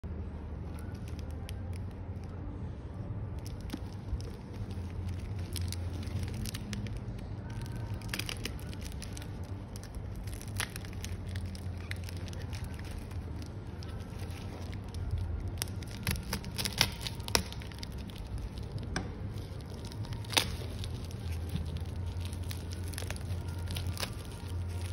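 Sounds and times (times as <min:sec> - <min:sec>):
plastic bag crinkling: 0:00.6 - 0:02.4, 0:03.4 - 0:24.9.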